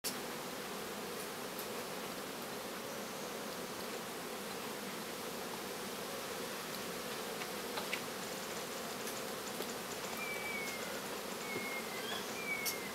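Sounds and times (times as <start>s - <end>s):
insect buzzing: 0.0s - 12.9s
steady hiss: 0.0s - 12.9s.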